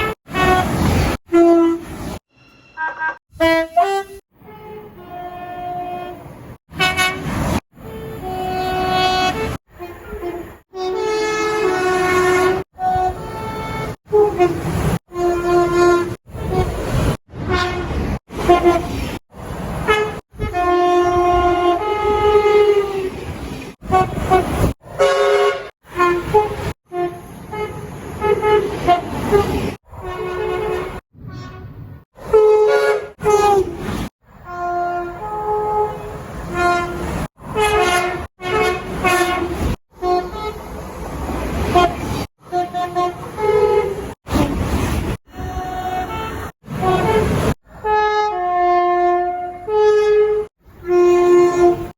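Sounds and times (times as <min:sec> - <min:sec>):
train horn blasts: 0:00.0 - 0:19.0, 0:19.8 - 0:40.8, 0:41.6 - 0:51.9.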